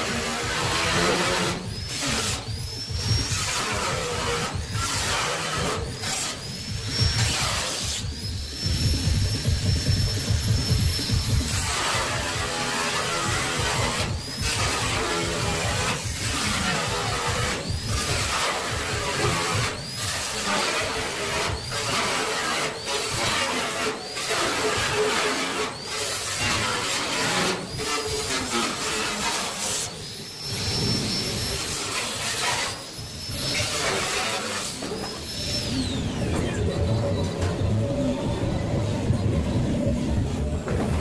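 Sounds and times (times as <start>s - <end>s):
power tool cutting steel whine: 0.0s - 41.0s.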